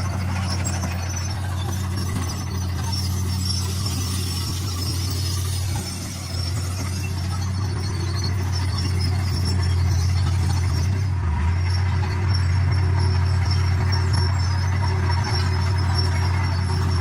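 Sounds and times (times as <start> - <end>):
bulldozer diesel engine running: 0.0 - 17.0
high squeal: 0.0 - 17.0.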